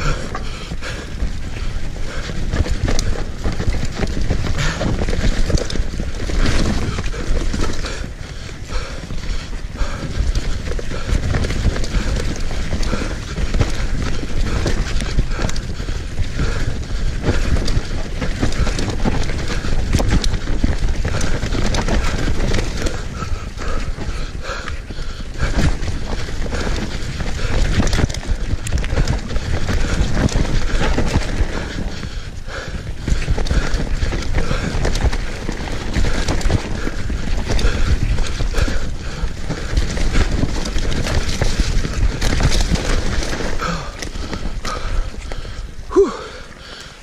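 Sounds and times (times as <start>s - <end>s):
bike tyre rumble on dirt: 0.0s - 47.0s.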